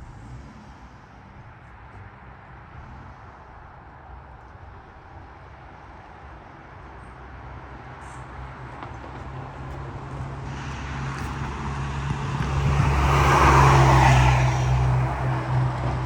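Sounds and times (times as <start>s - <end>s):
large vehicle engine drone: 0.0s - 16.0s.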